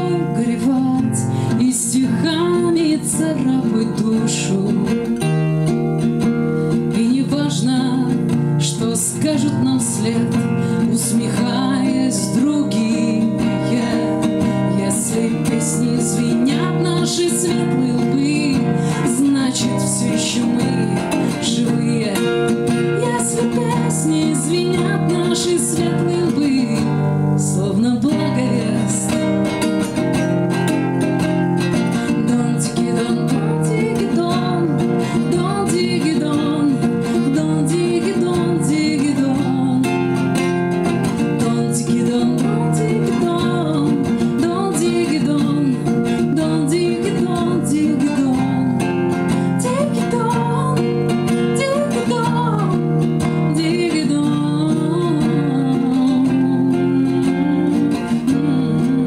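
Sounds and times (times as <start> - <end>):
strummed acoustic guitar: 0.0 - 59.0
woman singing: 0.0 - 59.0.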